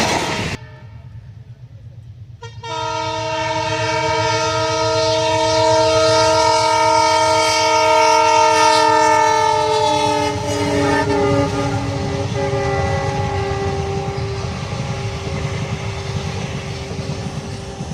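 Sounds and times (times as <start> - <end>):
train wheels rumbling on rails: 0.0 - 17.9
train horn long chord: 0.1 - 1.6, 2.4 - 16.6.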